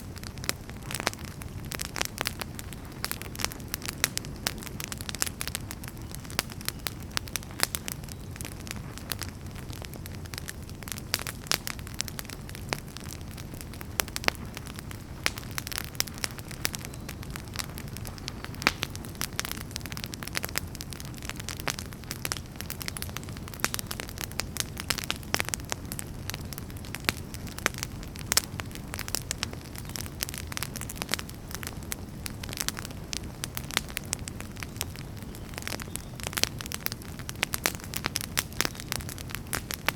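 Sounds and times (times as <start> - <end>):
fire crackling and popping: 0.0 - 39.9
wood fire burning: 0.0 - 39.9.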